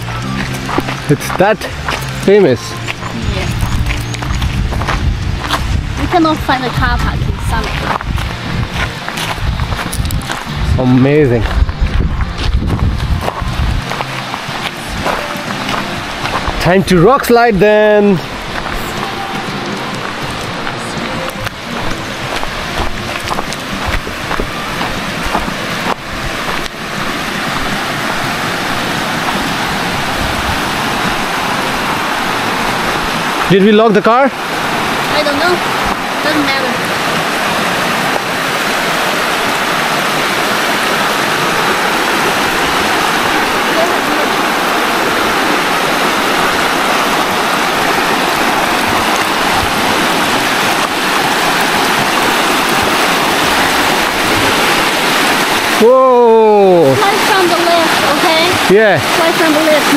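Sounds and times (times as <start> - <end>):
water rushing over rock: 0.0 - 59.9.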